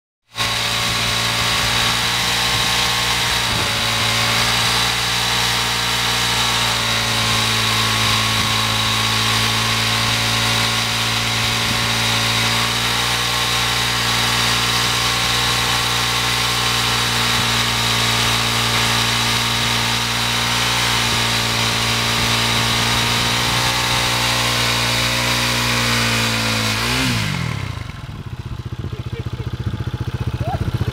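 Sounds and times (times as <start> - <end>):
motorcycle engine at high revs: 0.3 - 30.9.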